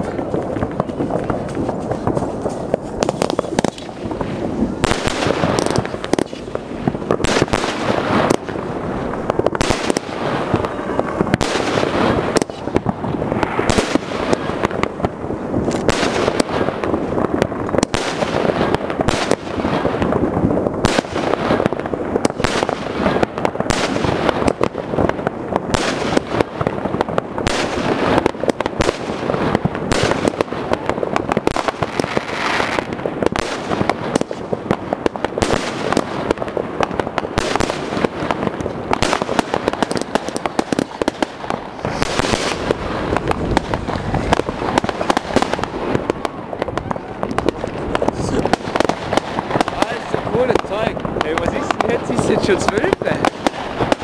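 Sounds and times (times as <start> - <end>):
fireworks banging and bursting: 0.0 - 54.0.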